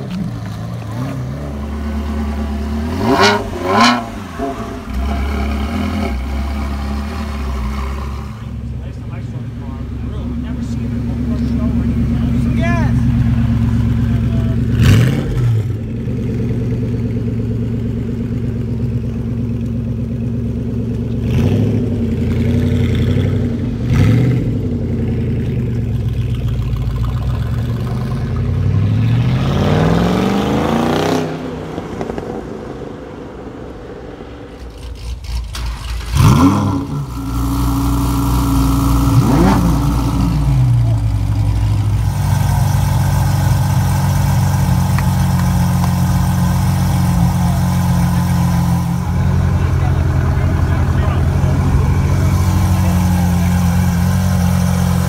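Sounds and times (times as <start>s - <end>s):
car accelerating away: 0.0s - 9.0s, 9.9s - 55.0s
car engine idling: 0.0s - 29.3s, 31.6s - 55.0s
car engine revving: 0.0s - 55.0s.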